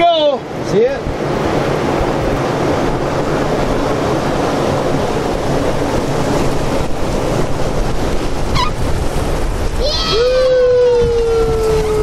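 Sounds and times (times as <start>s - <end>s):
river rapids rushing: 0.0s - 12.0s.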